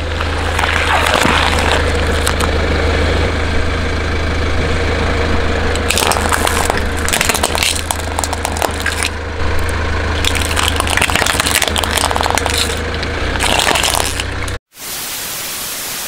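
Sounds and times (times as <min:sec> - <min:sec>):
car engine idling: 0:00.0 - 0:14.6
crackling and crunching under tyre: 0:00.0 - 0:14.6.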